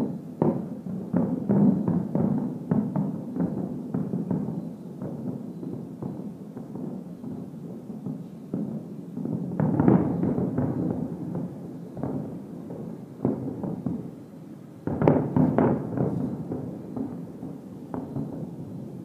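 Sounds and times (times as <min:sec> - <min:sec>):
firework shells booming: 0:00.0 - 0:14.2, 0:14.8 - 0:19.0.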